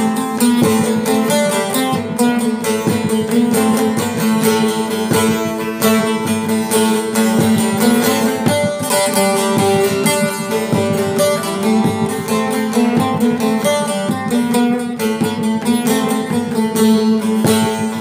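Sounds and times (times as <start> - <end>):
long-necked lute played solo: 0.0 - 18.0.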